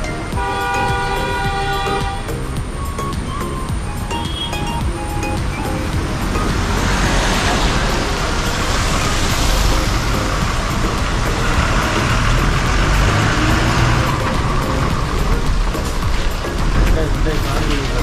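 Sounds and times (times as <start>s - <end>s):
diesel truck engine rumble: 0.0s - 18.0s
tyres hissing on wet road: 0.3s - 18.0s.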